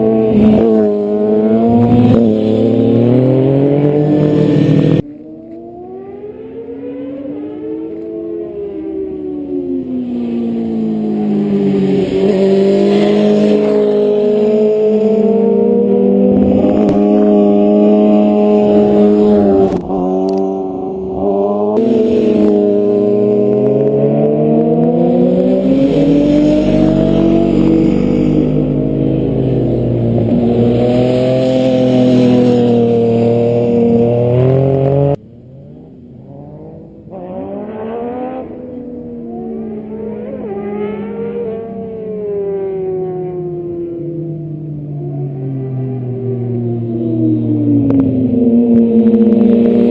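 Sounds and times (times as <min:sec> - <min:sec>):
motorcycles passing: 0:00.0 - 0:49.9.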